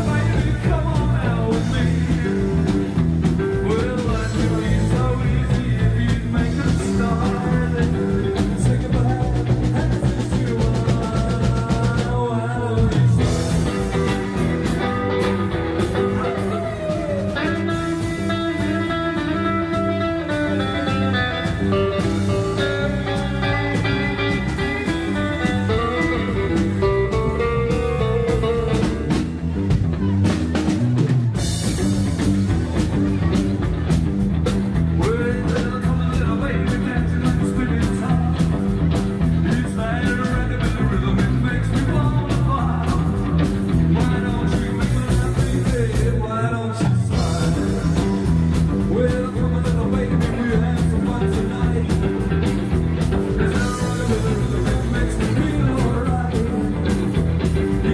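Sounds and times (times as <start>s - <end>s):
bass guitar: 0.0s - 57.9s
electric guitar lead: 0.0s - 57.9s
steady drum beat: 0.0s - 57.9s.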